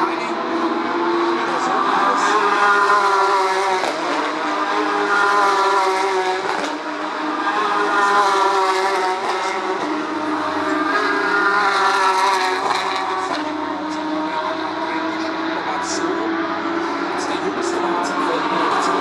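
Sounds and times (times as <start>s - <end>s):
race cars passing at high revs: 0.0s - 19.0s.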